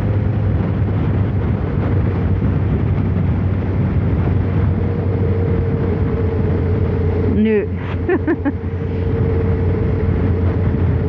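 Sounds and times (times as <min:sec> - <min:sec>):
motorcycle engine running steadily: 0:00.0 - 0:11.0
wind noise: 0:00.0 - 0:11.0.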